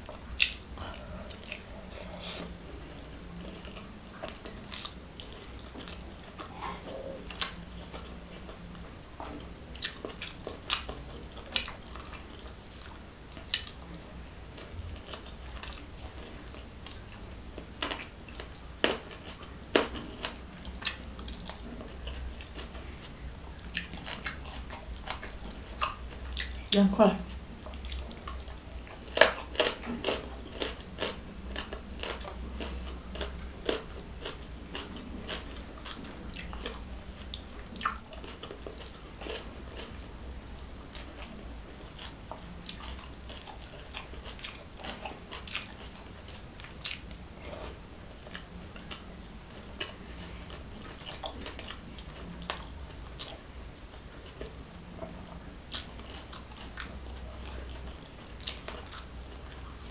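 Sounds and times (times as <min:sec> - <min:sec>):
faint low hum: 0:00.0 - 0:59.9
person chewing with mouth sounds: 0:00.0 - 0:59.9.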